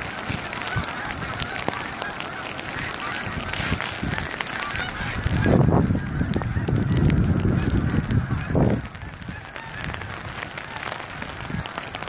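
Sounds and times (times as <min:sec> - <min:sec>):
geese honking: 0:00.0 - 0:12.0
raindrops ticking: 0:00.0 - 0:12.0
wind buffeting microphone: 0:00.0 - 0:12.0.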